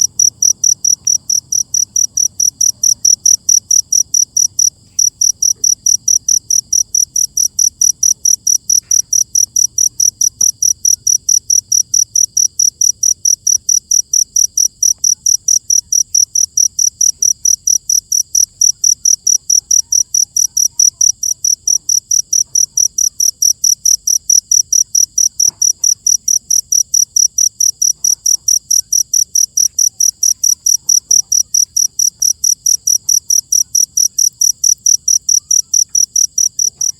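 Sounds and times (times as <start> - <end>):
cricket chirping: 0.0 - 36.9.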